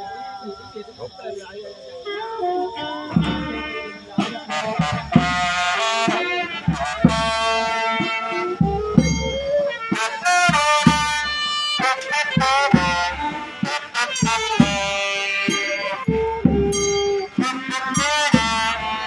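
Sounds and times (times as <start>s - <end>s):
wind instrument wavering melody: 0.0s - 19.0s
irregular drum beats: 2.7s - 19.0s.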